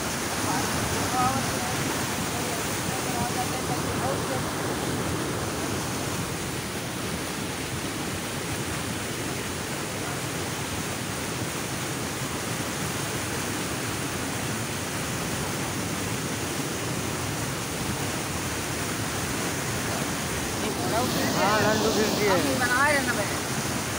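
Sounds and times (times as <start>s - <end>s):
water rushing along a boat: 0.0s - 23.9s.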